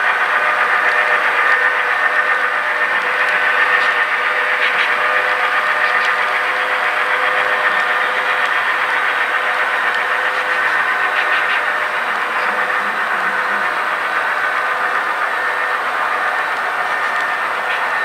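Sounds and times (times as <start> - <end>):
model train wheels rumbling: 0.0 - 18.0.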